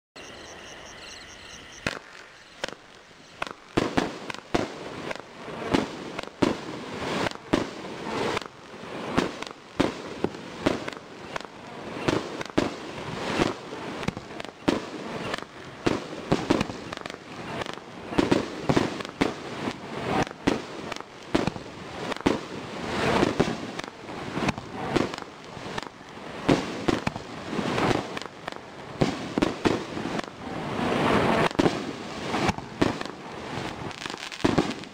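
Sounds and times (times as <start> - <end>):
fireworks firing and bursting: 0.3 - 34.9.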